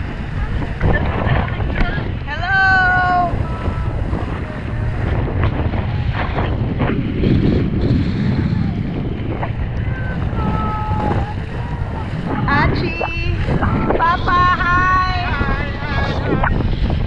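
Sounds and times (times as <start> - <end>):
water rushing and splashing: 0.0 - 17.0
wind buffeting microphone: 0.0 - 17.0.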